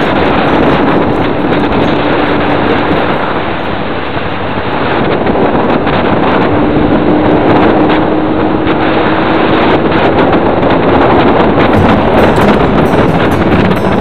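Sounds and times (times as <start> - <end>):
moving vehicle: 0.0 - 14.0
wind rushing: 0.0 - 14.0.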